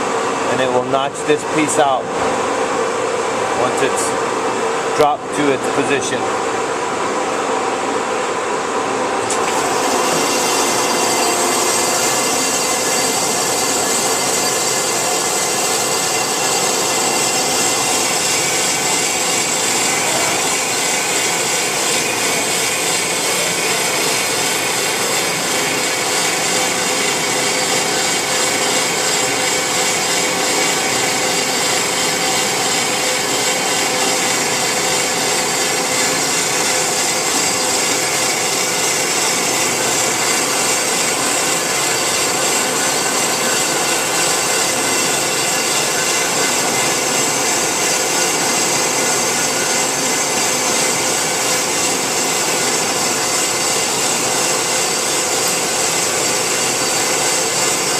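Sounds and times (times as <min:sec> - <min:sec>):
band saw running: 0:09.1 - 0:57.9.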